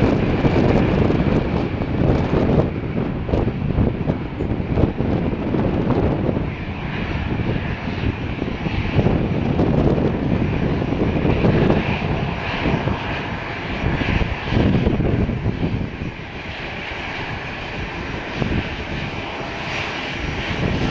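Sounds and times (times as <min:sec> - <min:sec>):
jet engines roaring at takeoff: 0:00.0 - 0:20.9.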